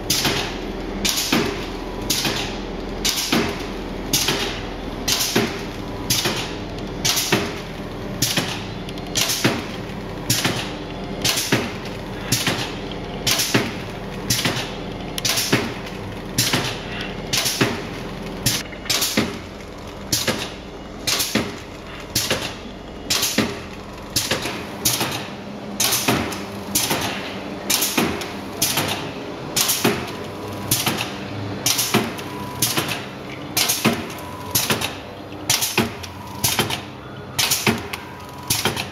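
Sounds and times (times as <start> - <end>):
packaging machine clacking: 0.0 - 38.9
steady machine hum: 0.0 - 38.9.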